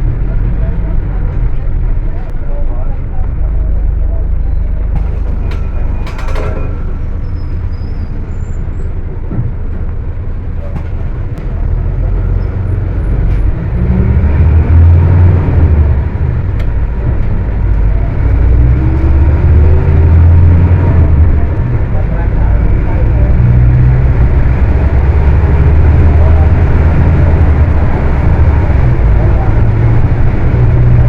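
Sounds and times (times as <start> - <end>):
diesel bus engine revving: 0.0 - 31.0.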